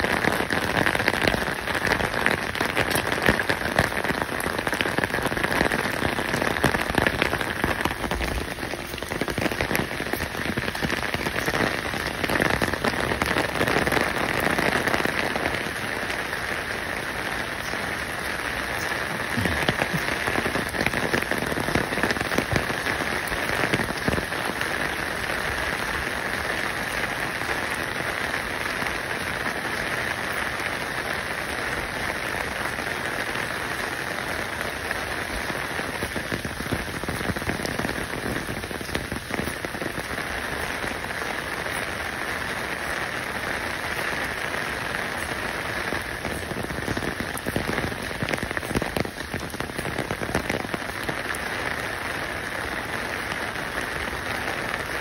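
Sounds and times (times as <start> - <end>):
rain-like patter: 0.0 - 55.0.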